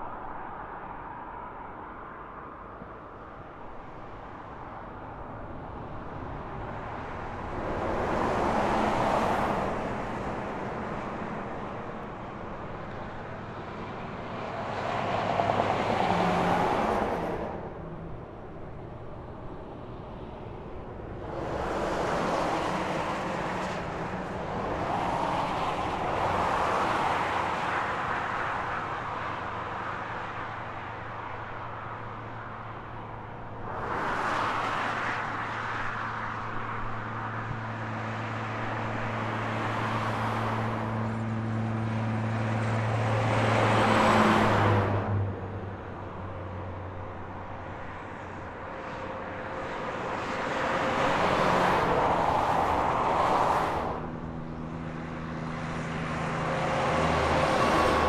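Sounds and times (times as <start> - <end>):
rush of tyre noise: 0.0 - 58.0
vehicles passing on highway: 0.0 - 58.0.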